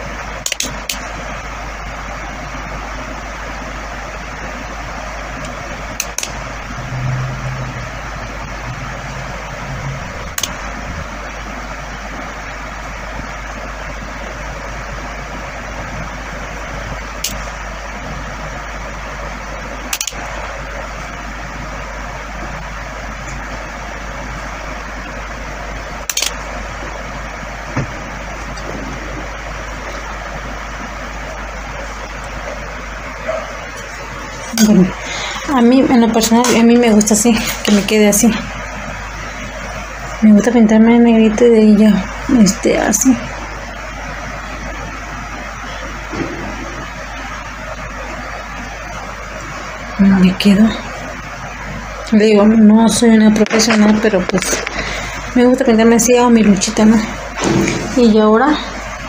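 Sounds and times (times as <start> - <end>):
low hum: 0.0 - 59.0
steady background hiss: 0.0 - 59.0.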